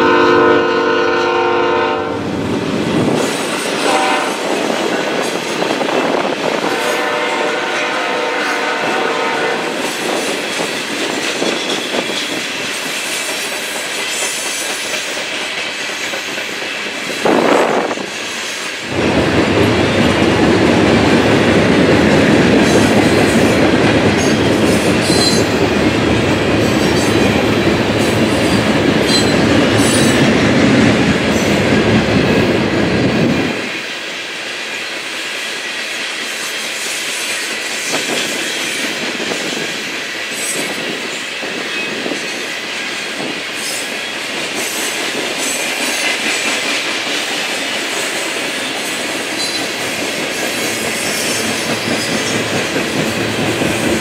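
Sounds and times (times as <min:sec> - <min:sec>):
hopper cars rolling on rails: 0:02.2 - 0:54.0.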